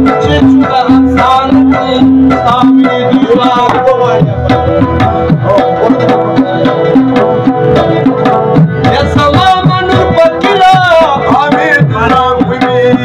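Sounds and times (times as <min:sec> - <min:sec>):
harmonium chords: 0:00.0 - 0:13.0
tabla strokes: 0:00.0 - 0:13.0.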